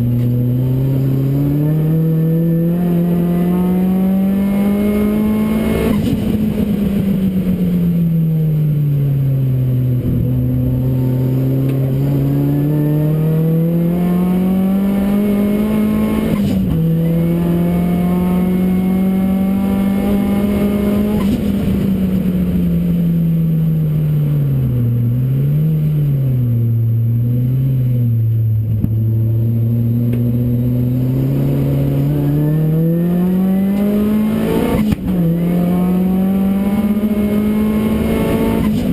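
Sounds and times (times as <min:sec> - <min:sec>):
race car engine accelerating: 0:00.0 - 0:08.1, 0:09.1 - 0:38.9.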